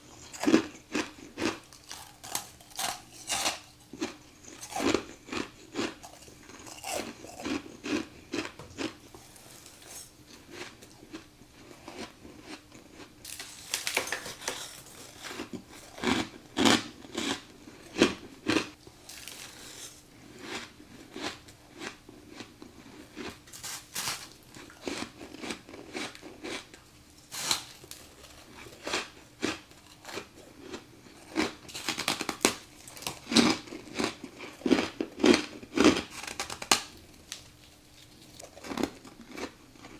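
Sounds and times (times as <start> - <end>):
crunching ice: 0.2 - 10.8, 11.8 - 20.0, 23.2 - 26.7, 27.3 - 37.4.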